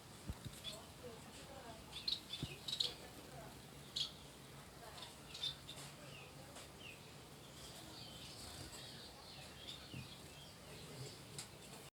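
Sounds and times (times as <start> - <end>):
small birds chirping: 0.2 - 11.9.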